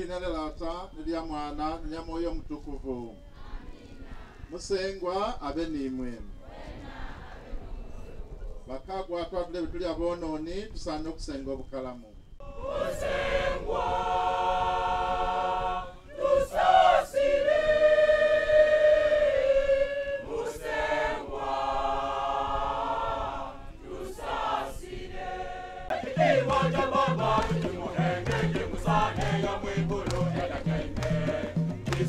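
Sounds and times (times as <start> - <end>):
choir singing a hymn: 1.6 - 5.0, 5.8 - 8.8, 12.4 - 32.0.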